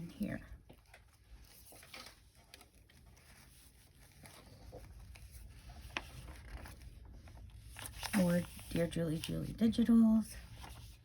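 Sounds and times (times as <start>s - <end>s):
paper rustling: 0.7s - 11.0s.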